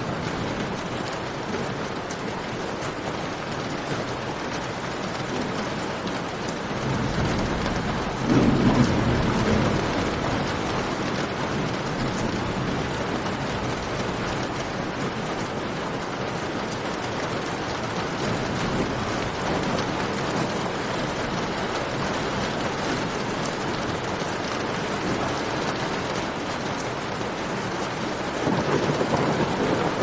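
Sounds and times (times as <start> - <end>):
heavy rain hiss: 0.0 - 30.0.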